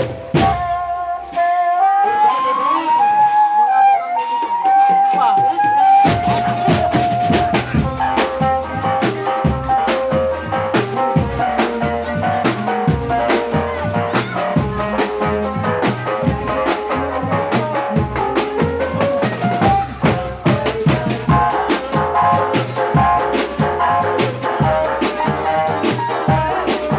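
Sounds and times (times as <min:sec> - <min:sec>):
drum kit beat: 0:00.0 - 0:26.9
live band music: 0:00.0 - 0:26.9.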